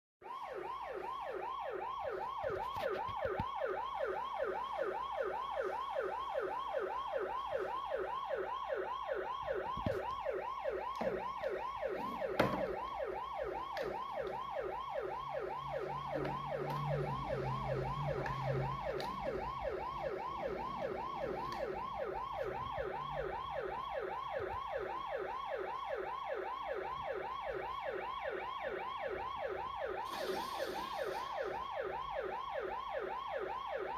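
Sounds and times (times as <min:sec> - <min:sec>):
ambulance siren yelping: 0:00.2 - 0:33.9.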